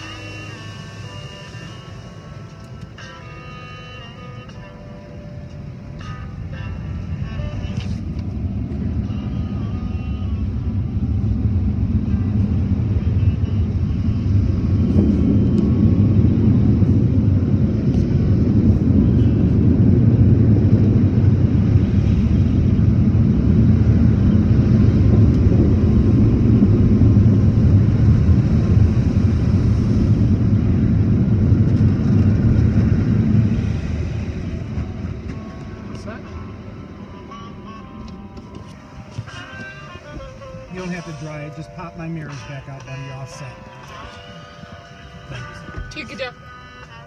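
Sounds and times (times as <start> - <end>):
car wash machinery rumble: 0.0 - 4.1, 5.1 - 46.3.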